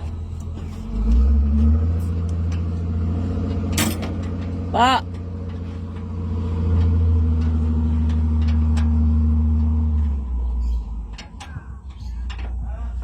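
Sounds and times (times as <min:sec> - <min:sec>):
rough low rumble: 0:00.0 - 0:13.0.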